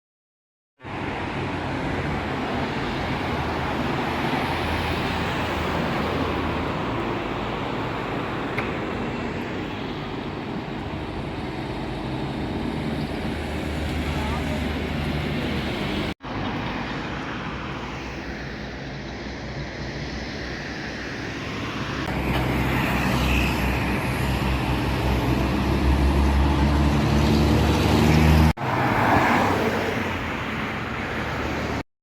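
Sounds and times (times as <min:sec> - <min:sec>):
road traffic engines: 0:00.8 - 0:31.8.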